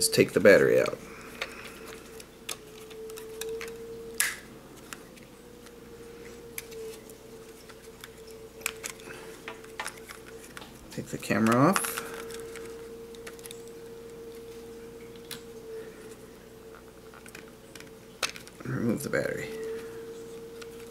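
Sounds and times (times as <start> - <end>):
steady faint hum: 0.0 - 20.9.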